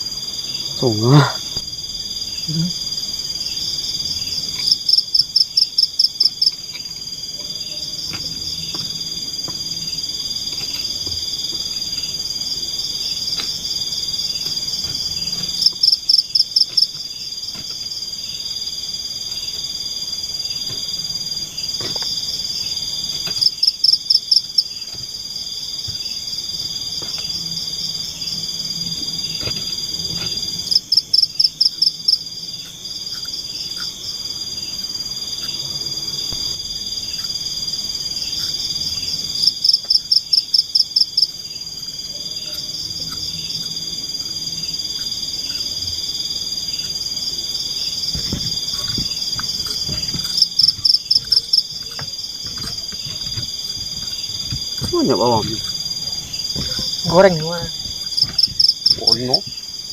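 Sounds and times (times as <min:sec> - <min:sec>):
insects trilling chorus: 0:00.0 - 0:59.9
loud pulsing insect call: 0:00.0 - 0:59.9.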